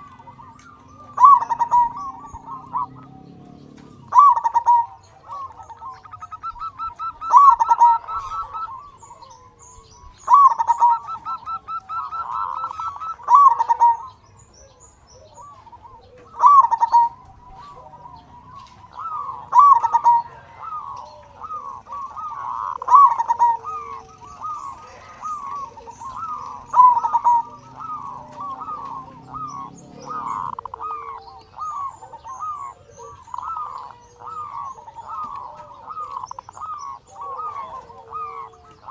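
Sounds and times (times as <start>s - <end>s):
dove cooing: 0.0s - 38.9s
faint high bird chirps: 0.0s - 38.9s.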